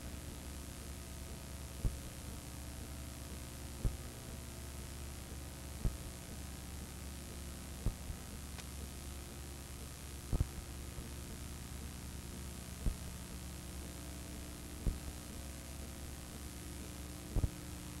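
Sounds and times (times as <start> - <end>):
electrical hum and hiss: 0.0 - 18.0.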